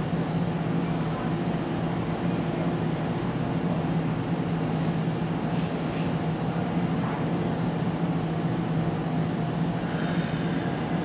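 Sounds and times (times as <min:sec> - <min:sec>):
tram rolling rumble: 0:00.0 - 0:11.0.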